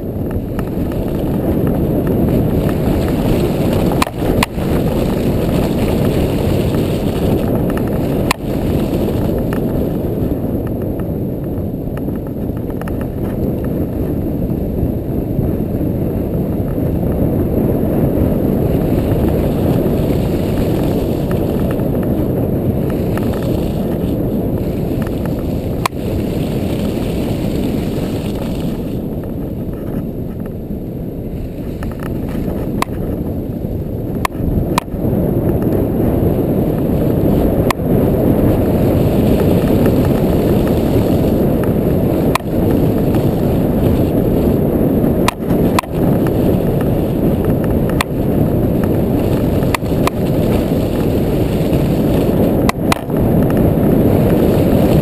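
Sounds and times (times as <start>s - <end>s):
quad bike engine rumble: 0.0s - 55.0s
wind on microphone: 0.0s - 55.0s.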